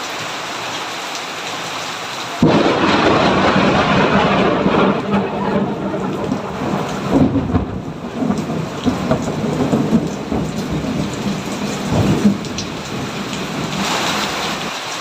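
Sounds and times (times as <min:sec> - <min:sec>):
steady rain falling: 0:00.0 - 0:15.0
low rolling thunder: 0:02.4 - 0:14.7.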